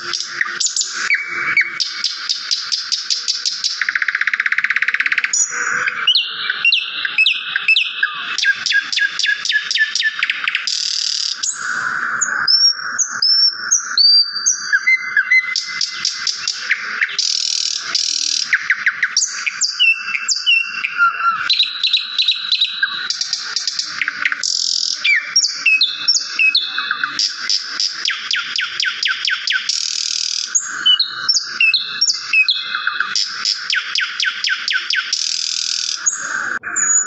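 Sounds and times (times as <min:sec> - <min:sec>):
songbird singing: 0:00.0 - 0:37.0.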